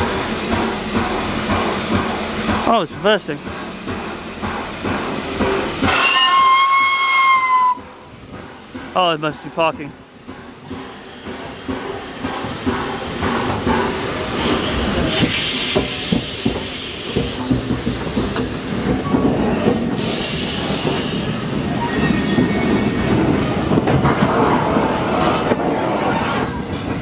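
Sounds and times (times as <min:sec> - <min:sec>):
locomotive rumble: 0:00.0 - 0:27.0
steam hissing: 0:00.0 - 0:27.0.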